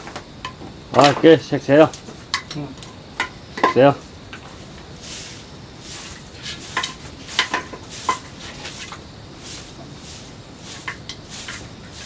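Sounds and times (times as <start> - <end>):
small hard objects clinking: 1.8 - 12.0.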